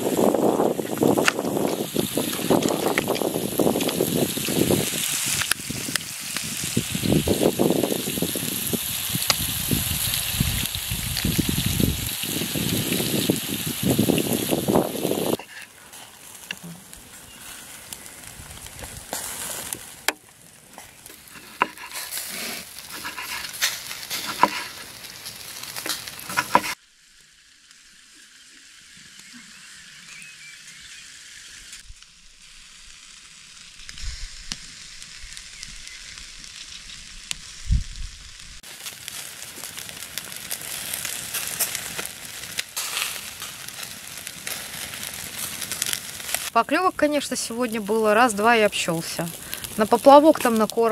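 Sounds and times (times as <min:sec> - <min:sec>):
vegetables sizzling in a frying pan: 0:00.0 - 0:29.8, 0:30.7 - 0:50.9.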